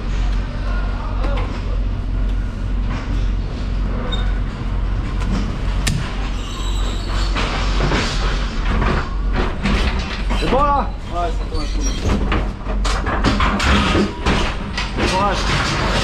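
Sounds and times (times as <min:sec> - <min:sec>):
low machine drone: 0:00.0 - 0:16.0.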